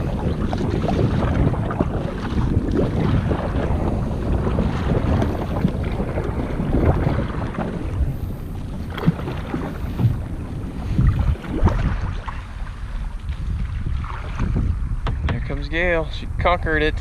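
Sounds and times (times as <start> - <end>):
waves splashing against kayak: 0.0 - 15.4
wind buffeting microphone: 0.0 - 17.0.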